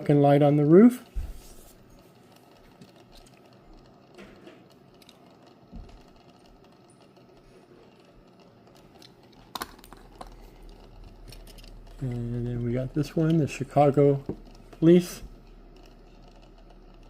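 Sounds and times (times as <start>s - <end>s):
model cars clicking and tapping: 0.2s - 17.0s.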